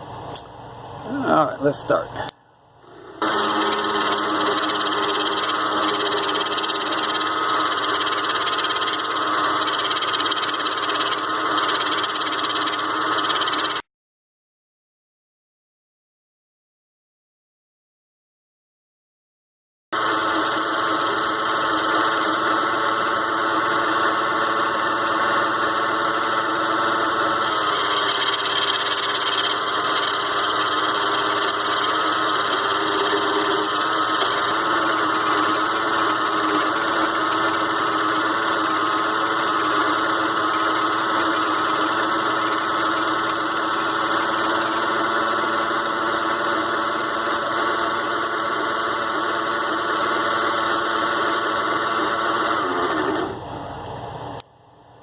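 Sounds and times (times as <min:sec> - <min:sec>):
mini lathe motor whining: 0:02.8 - 0:13.8, 0:20.0 - 0:53.6.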